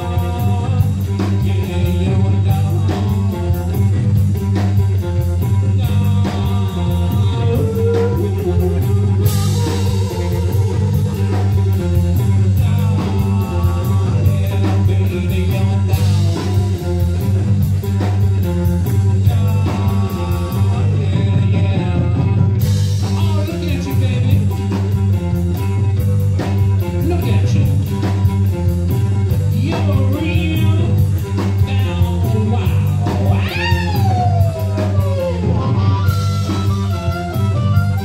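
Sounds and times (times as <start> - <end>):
live rock-blues band playing: 0.0 - 38.0.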